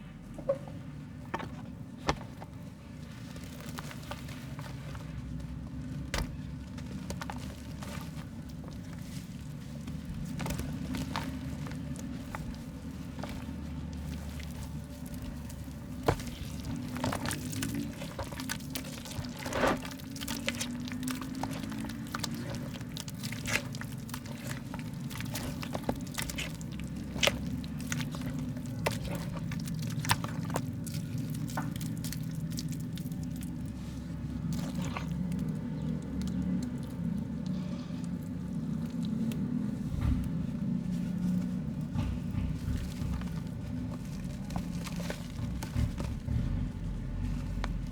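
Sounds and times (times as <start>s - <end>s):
mud crumbling by hand: 0.0s - 47.9s.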